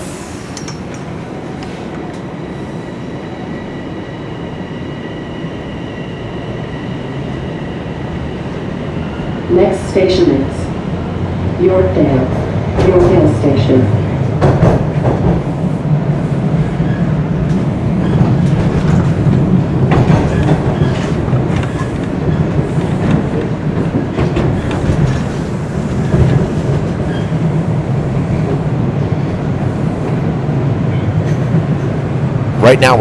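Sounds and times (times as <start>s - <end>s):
subway train rumbling: 0.0s - 33.0s.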